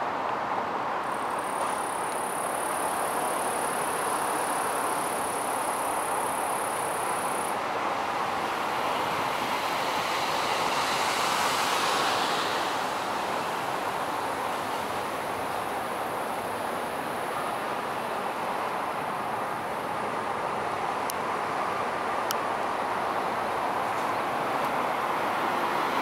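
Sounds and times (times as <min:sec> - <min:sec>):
traffic: 0:00.0 - 0:26.0.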